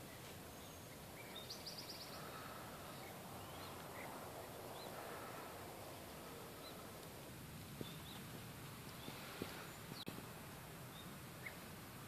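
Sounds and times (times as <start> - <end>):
faint background noise: 0.0 - 12.0
songbird chirps: 0.0 - 12.0.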